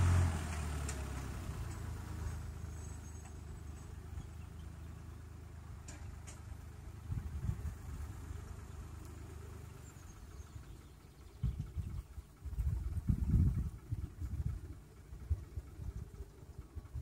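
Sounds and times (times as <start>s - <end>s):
distant tractor engine drone: 0.0s - 17.0s.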